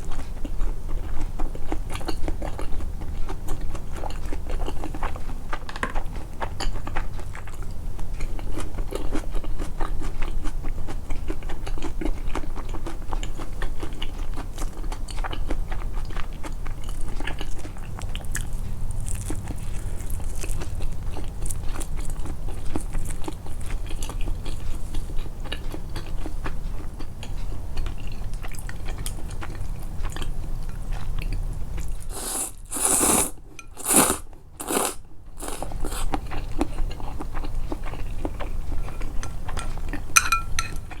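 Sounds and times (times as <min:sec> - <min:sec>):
person chewing food: 0:00.0 - 0:41.0.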